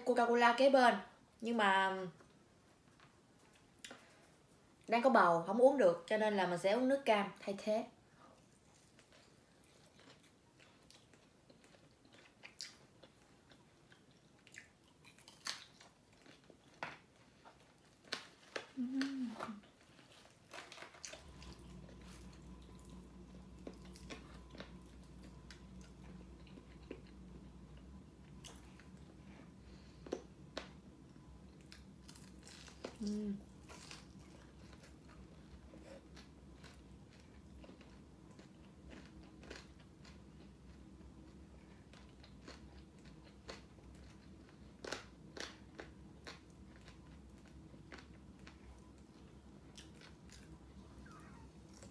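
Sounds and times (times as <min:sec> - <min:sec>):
steady low hum: 0:07.3 - 0:51.9
crunching and chewing fried chicken: 0:08.3 - 0:51.9.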